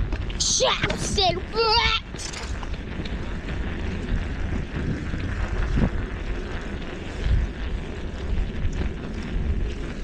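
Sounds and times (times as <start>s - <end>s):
bicycle road noise: 0.0s - 10.0s
wind rumbling on microphone: 0.0s - 10.0s.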